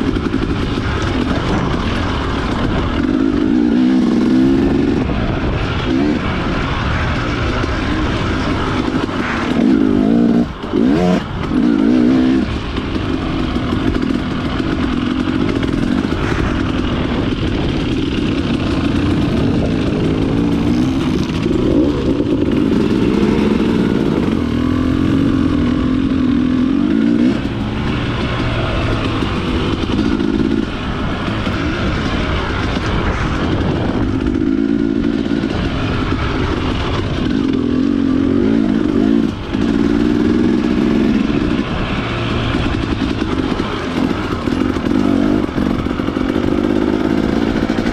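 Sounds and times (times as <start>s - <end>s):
dirt bike engine running: 0.0s - 47.9s.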